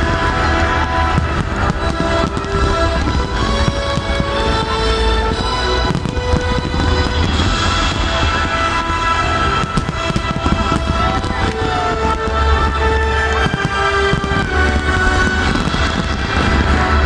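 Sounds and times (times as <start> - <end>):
fireworks booming and crackling: 0.0 - 17.0
music with held notes: 0.0 - 17.0.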